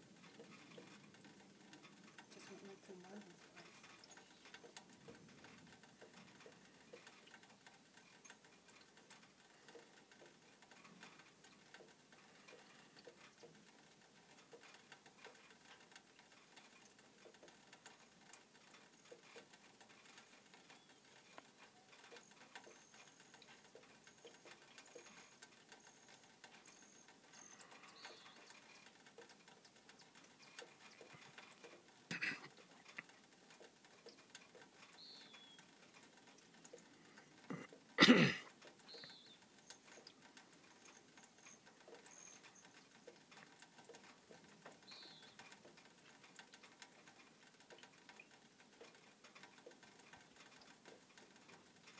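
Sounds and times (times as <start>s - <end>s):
faint ticking and crackling: 0.0s - 51.9s.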